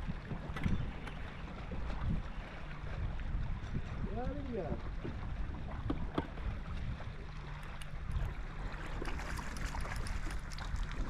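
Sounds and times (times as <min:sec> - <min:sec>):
water lapping against boat: 0:00.0 - 0:11.0
wind on microphone: 0:00.0 - 0:11.0
small splashes: 0:01.0 - 0:11.0.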